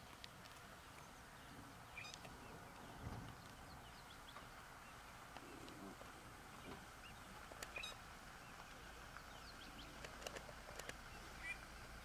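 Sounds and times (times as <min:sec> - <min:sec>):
bird chirps: 0:00.8 - 0:05.8, 0:06.5 - 0:10.2, 0:10.8 - 0:12.0.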